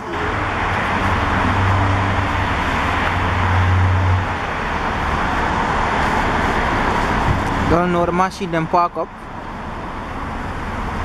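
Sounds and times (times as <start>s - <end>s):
car engine humming: 0.0s - 11.0s
road noise: 0.0s - 11.0s.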